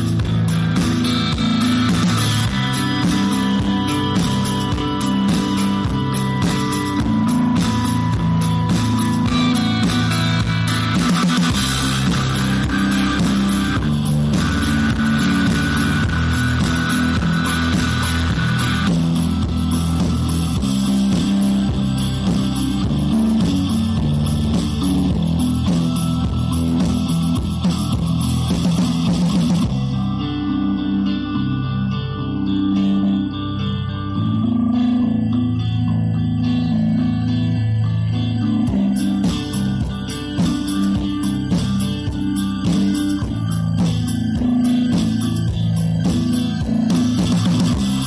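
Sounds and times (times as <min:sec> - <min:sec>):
instrumental background music: 0:00.0 - 0:48.0.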